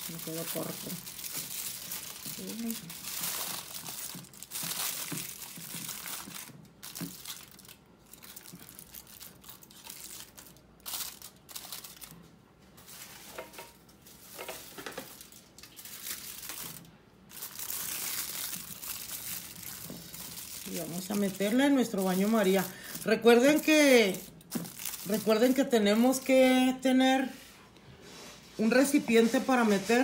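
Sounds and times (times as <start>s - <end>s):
aluminium foil crinkling: 0.0s - 26.9s.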